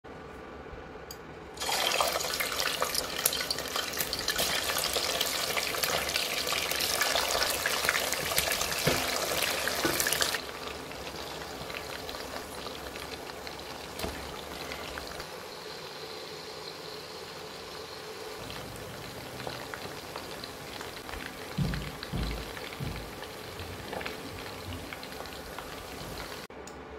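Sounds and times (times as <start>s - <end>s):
chicken frying in hot oil: 1.6s - 26.5s.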